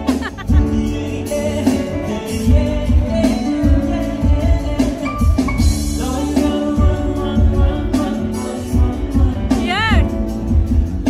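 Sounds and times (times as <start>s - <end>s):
live band music with singer: 0.0s - 11.0s.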